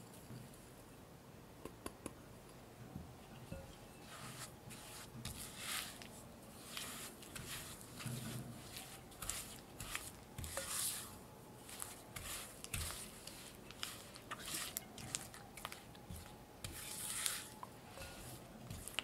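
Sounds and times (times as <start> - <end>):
spatula scraping a glass bowl: 3.5 - 19.0.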